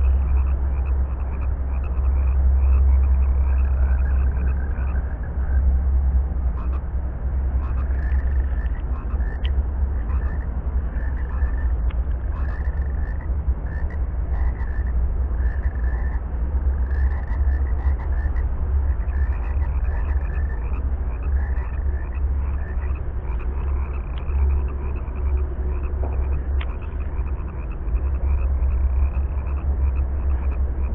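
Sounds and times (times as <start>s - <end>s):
frogs croaking: 0.0s - 30.9s
low rumble: 0.0s - 30.9s.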